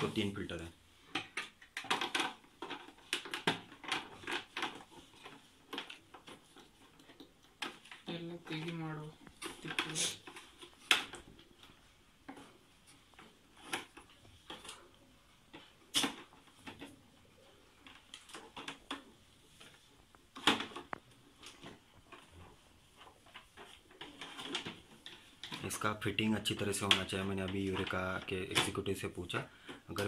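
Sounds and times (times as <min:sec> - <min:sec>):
plastic clicks and knocks: 0:01.1 - 0:17.0, 0:17.8 - 0:28.9.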